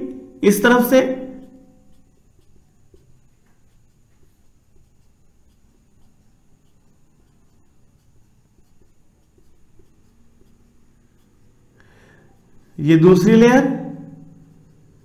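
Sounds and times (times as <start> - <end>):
low room hum: 0.0 - 15.0
pen scratching and tapping: 0.5 - 15.0.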